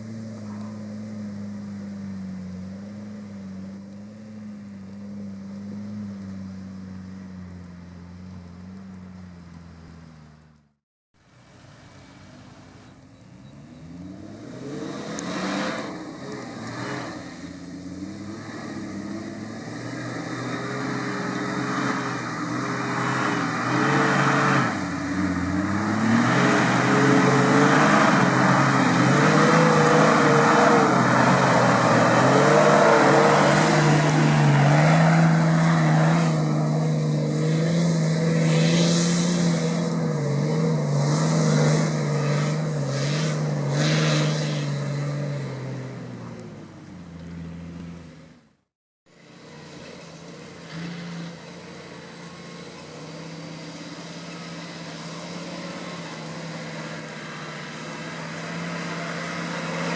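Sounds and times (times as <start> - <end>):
car engine revving unevenly: 0.0 - 59.9.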